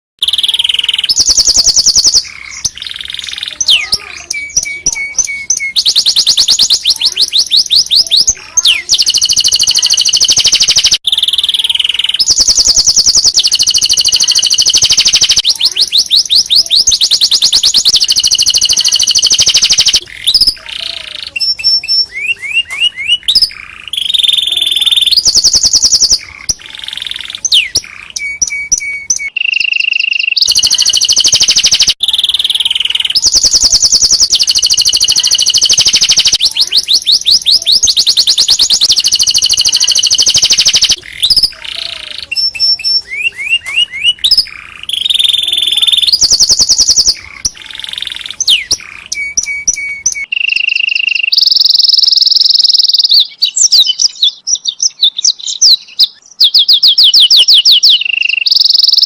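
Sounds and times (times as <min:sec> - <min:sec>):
canary singing trills: 0:00.2 - 0:59.0.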